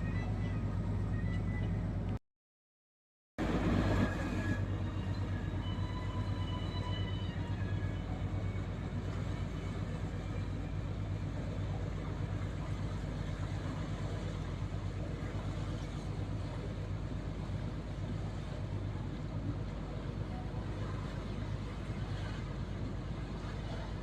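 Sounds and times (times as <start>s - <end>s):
ship diesel engine drone: 0.0s - 2.2s, 3.4s - 24.0s.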